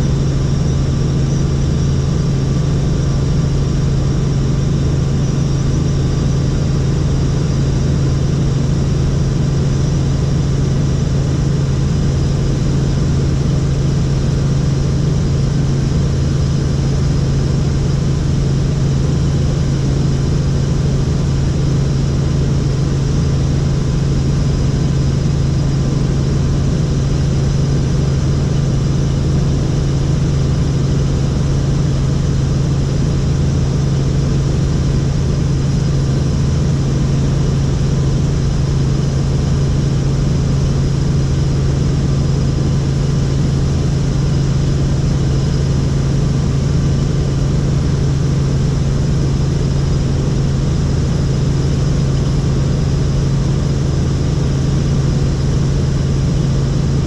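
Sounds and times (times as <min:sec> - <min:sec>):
helicopter rotor drone: 0:00.0 - 0:57.0.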